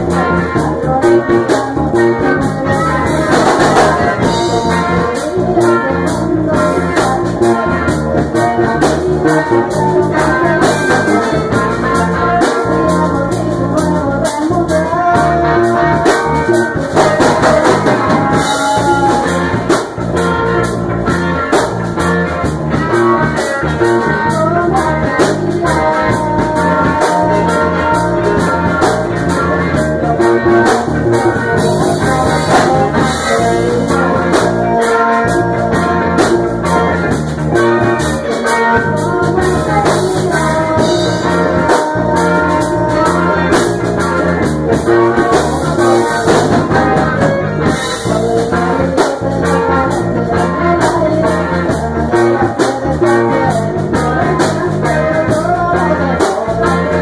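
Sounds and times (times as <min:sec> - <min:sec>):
woman singing: 0:00.0 - 0:20.6, 0:22.8 - 0:57.0
drum kit: 0:00.0 - 0:57.0
electric guitars: 0:00.0 - 0:57.0.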